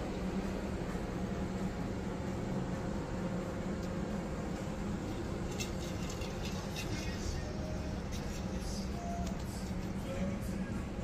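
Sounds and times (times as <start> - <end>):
low hum of machinery: 0.0 - 11.0.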